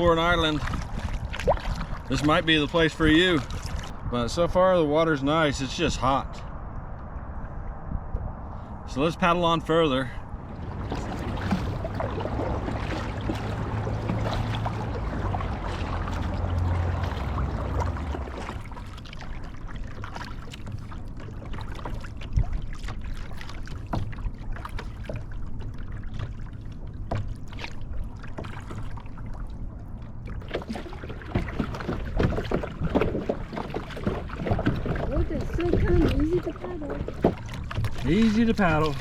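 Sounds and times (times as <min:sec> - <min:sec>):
paddle splashes and drips: 0:00.0 - 0:04.1, 0:09.7 - 0:39.0
low hum: 0:05.5 - 0:39.0.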